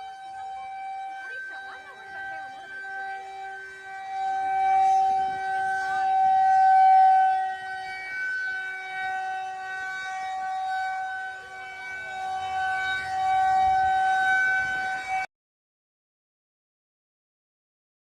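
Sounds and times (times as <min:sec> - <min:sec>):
tornado warning siren: 0:00.0 - 0:15.3.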